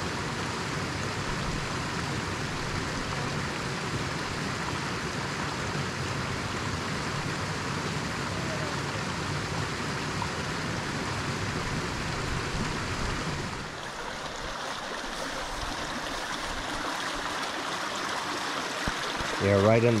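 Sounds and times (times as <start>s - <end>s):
creek water rushing over rocks: 0.0s - 20.0s
low water rumble: 0.0s - 20.0s.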